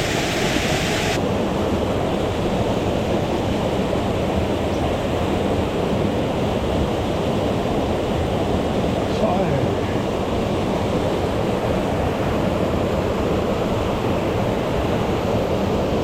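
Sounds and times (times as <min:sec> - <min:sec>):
rushing stream water: 0:00.0 - 0:16.0.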